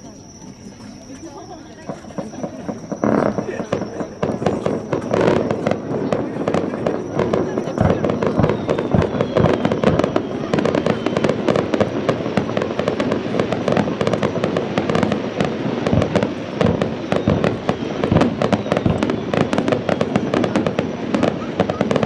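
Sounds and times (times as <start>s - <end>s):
fireworks bursts and crackling: 0.0s - 22.0s.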